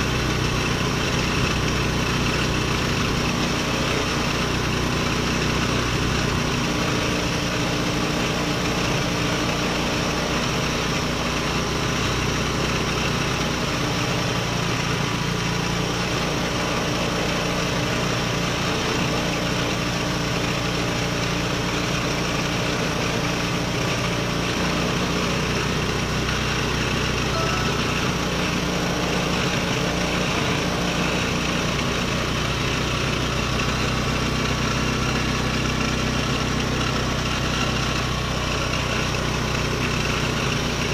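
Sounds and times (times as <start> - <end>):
scooter engine idling: 0.0 - 40.9.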